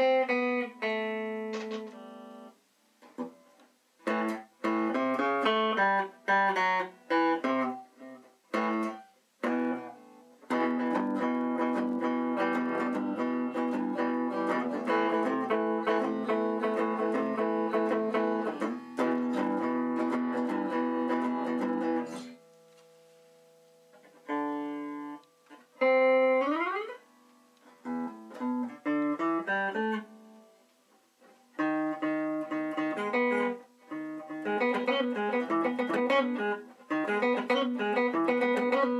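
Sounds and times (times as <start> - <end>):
electric guitar picking: 0.0 - 38.9.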